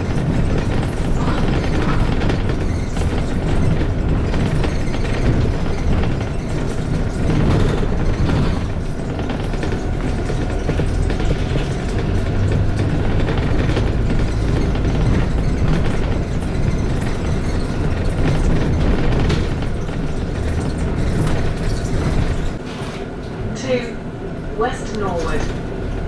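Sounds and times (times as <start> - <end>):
bus body rattling and knocking: 0.0 - 26.0
bus engine drone: 0.0 - 26.0.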